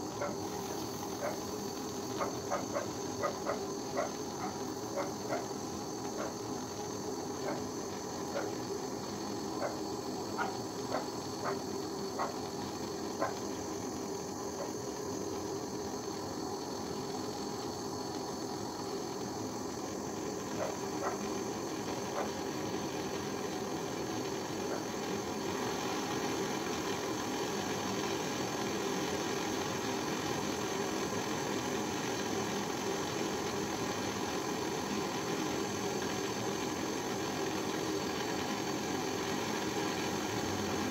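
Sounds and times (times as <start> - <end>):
gas torch flame hissing: 0.0 - 40.9.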